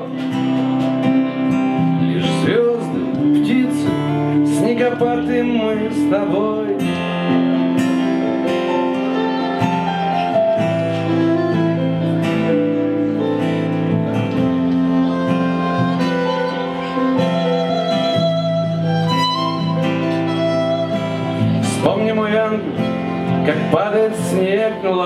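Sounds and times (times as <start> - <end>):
acoustic guitar accompaniment: 0.0 - 25.0
sustained lead melody: 0.0 - 25.0.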